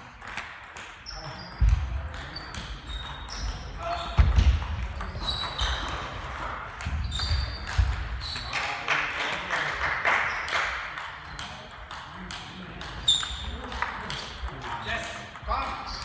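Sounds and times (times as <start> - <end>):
table tennis balls clicking: 0.0 - 15.8.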